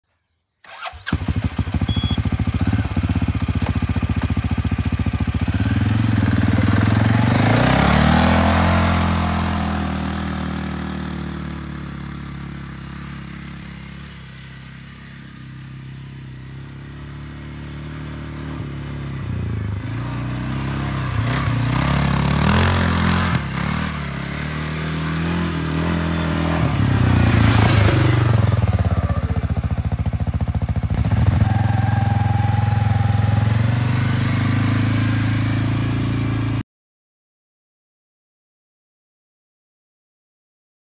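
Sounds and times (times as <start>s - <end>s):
all-terrain vehicle engine revving: 0.6s - 36.6s.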